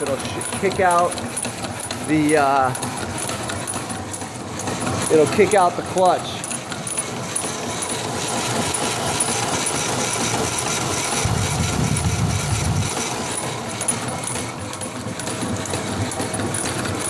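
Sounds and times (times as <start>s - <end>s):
power hacksaw cutting steel: 0.0s - 17.0s.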